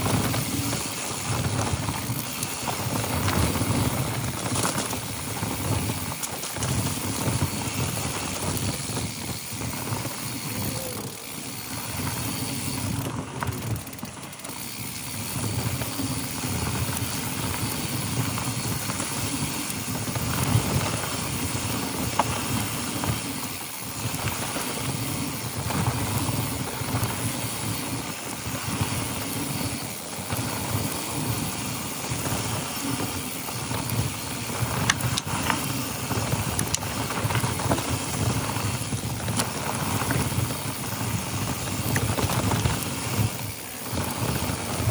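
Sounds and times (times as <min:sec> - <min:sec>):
bike knocking and rattling: 0:00.0 - 0:44.9
bike tyres rumbling over dirt: 0:00.0 - 0:44.9.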